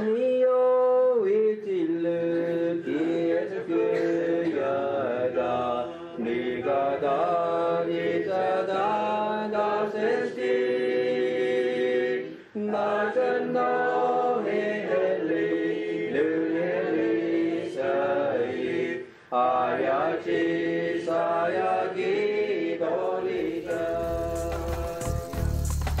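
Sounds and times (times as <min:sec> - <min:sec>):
voices chanting held notes: 0:02.3 - 0:26.0.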